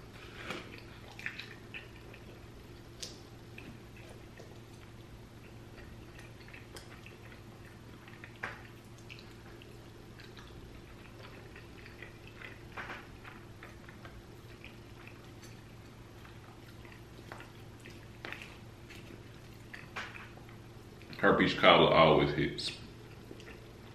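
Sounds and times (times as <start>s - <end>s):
chewing and mouth clicks: 0.0s - 21.2s, 22.9s - 23.9s
faint steady hum: 0.0s - 23.9s.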